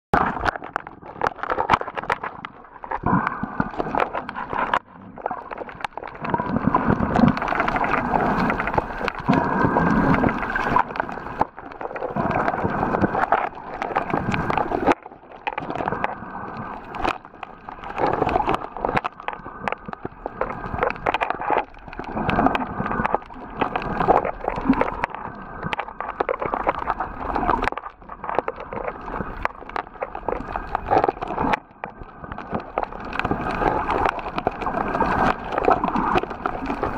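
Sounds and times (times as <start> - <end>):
water sloshing underwater: 0.1 - 36.9.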